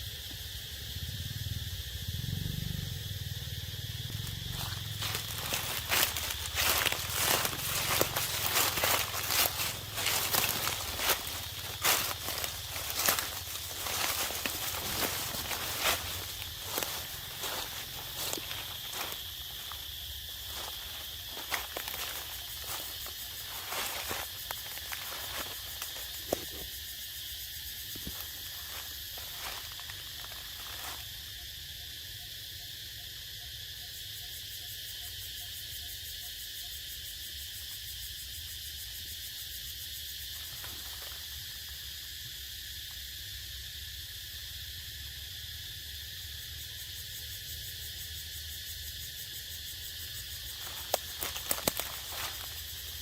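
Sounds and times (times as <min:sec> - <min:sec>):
insect chorus drone: 0:00.0 - 0:53.0.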